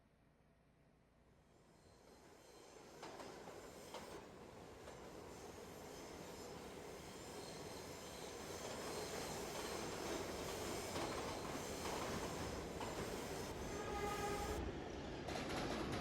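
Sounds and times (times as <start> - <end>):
subway train rumbling: 2.0 - 16.0.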